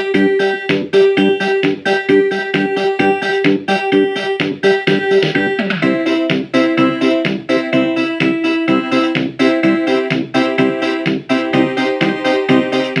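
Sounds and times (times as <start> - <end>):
synthesizer chord pattern: 0.0 - 13.0.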